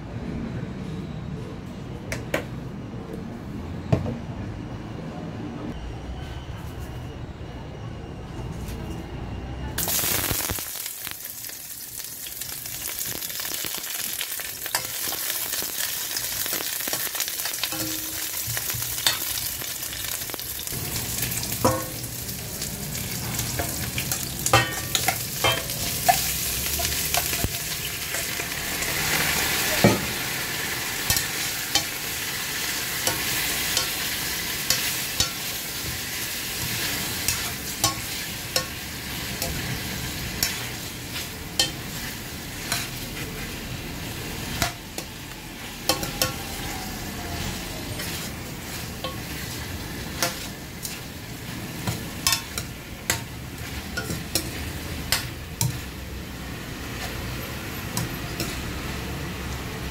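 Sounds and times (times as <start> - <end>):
onions sizzling in a wok: 9.8 - 59.9.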